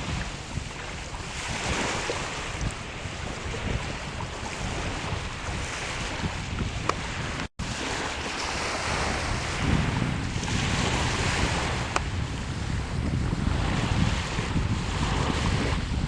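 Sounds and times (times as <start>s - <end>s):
sea waves washing on shore: 0.0s - 16.0s
wind buffeting microphone: 0.0s - 16.0s.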